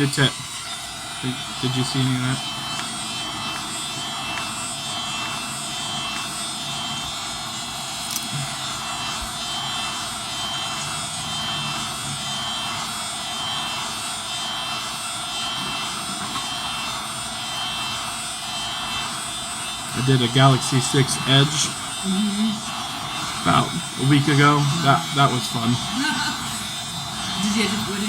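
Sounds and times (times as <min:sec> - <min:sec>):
heat gun blowing hot air: 0:00.0 - 0:28.0.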